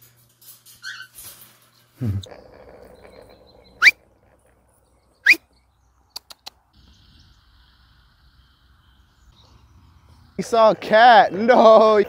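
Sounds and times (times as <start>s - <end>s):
bird chirp: 0.8s - 12.0s.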